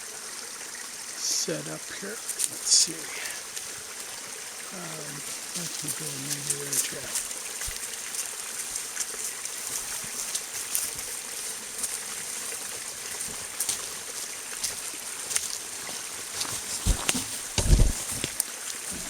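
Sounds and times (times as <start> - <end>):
stream trickling: 0.0 - 19.0.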